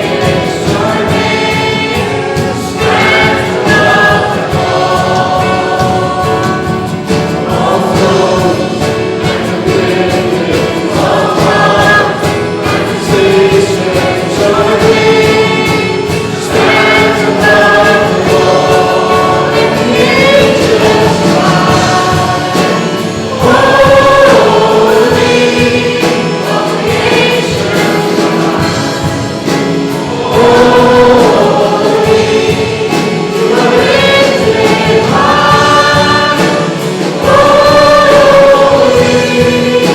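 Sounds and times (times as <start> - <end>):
congregation singing a hymn: 0.0 - 39.9
instrumental accompaniment: 0.0 - 39.9.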